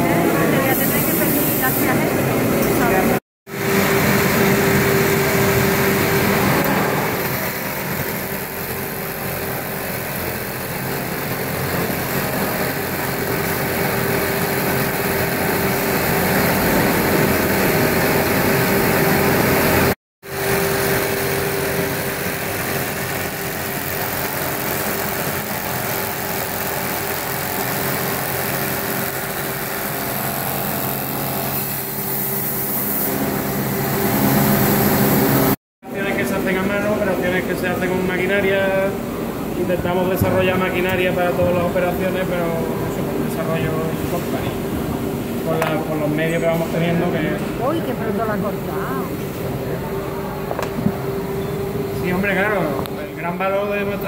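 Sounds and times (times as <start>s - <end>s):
machines humming: 0.0s - 54.0s.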